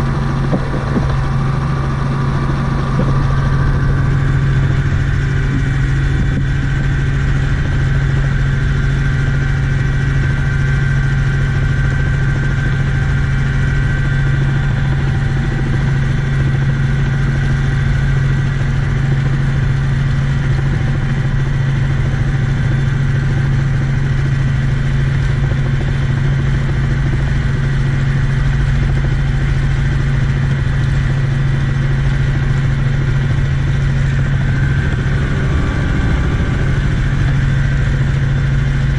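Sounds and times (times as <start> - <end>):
helicopter engine and rotors droning: 0.0 - 38.9.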